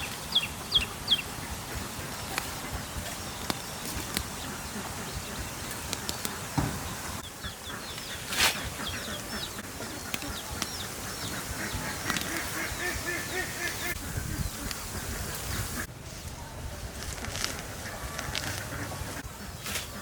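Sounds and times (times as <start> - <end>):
waterfowl honking: 0.0 - 15.9, 17.7 - 20.0
birds chirping: 0.0 - 20.0.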